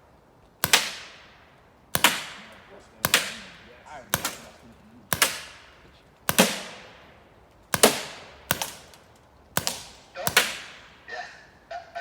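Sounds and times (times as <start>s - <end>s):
echoing gunshots: 0.6s - 11.4s.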